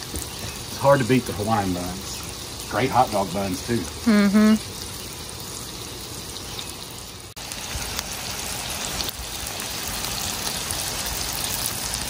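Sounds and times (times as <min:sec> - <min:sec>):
meat and onions sizzling on griddle: 0:00.0 - 0:12.0.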